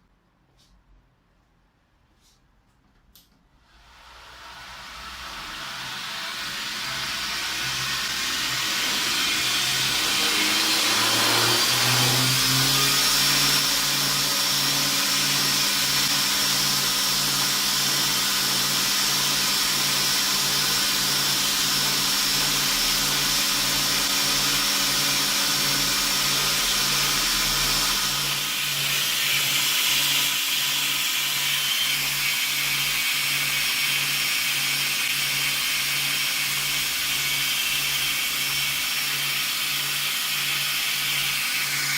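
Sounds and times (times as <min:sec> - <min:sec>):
belt grinder motor running: 0:03.8 - 0:41.9.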